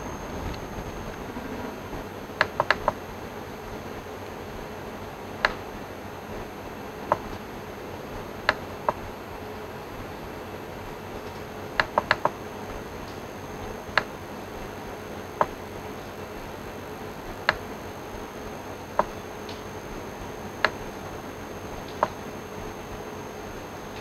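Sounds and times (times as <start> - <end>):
steady hiss with faint hum: 0.0 - 24.0.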